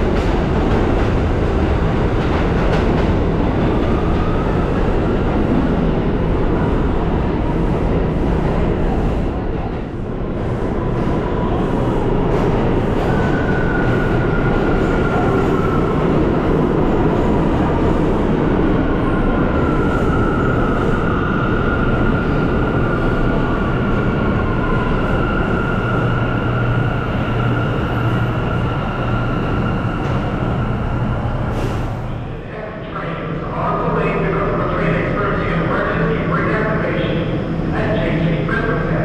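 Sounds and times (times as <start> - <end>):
subway train rumbling: 0.0 - 39.0.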